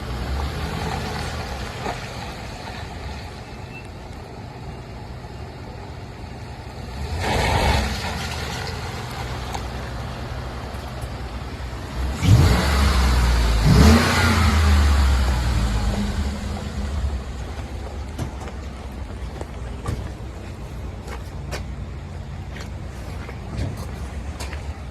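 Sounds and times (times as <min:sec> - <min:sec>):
truck engine idling and revving: 0:00.0 - 0:24.9.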